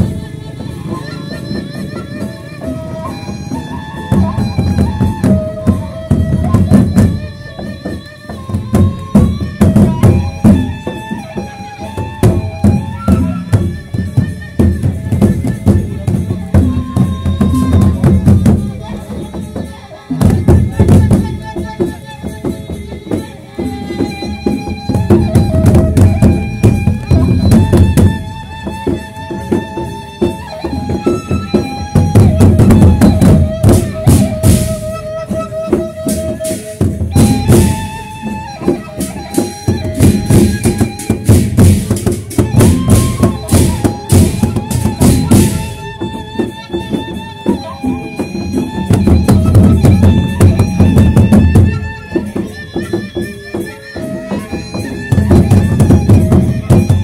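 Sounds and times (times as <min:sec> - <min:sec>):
fast drumming: 0:00.0 - 0:53.3, 0:54.0 - 0:57.0
metallic percussion: 0:00.0 - 0:57.0.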